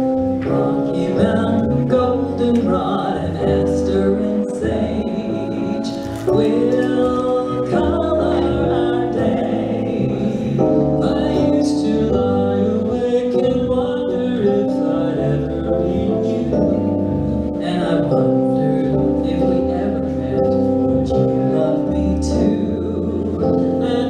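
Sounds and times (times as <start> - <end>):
person singing: 0.4 - 24.0.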